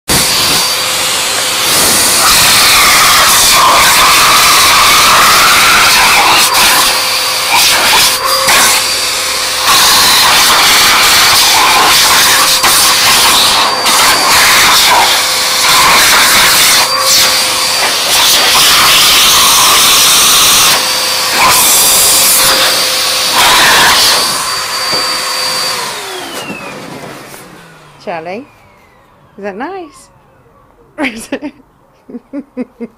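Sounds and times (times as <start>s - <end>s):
hairdryer blowing: 0.1s - 29.8s.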